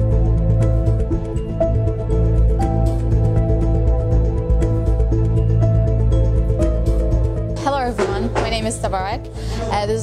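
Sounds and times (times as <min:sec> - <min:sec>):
soft new-age music: 0:00.0 - 0:10.0.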